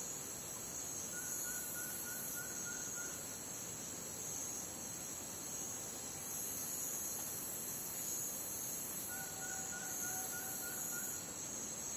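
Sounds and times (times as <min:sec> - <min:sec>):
crickets and insects chorus: 0:00.0 - 0:11.9.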